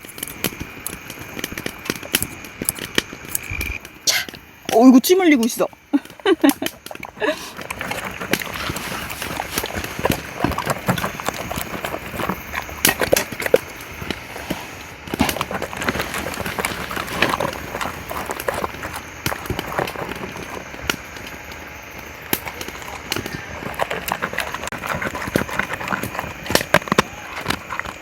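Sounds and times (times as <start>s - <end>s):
dog chewing food: 5.4s - 28.0s.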